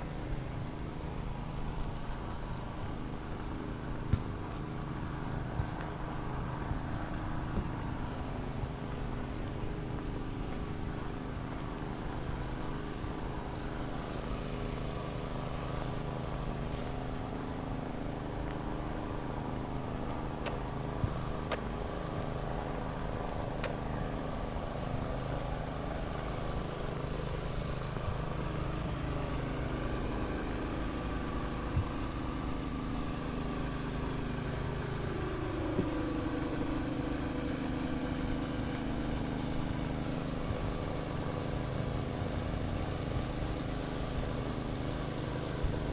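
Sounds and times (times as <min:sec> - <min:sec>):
engine hum: 0:00.0 - 0:45.9.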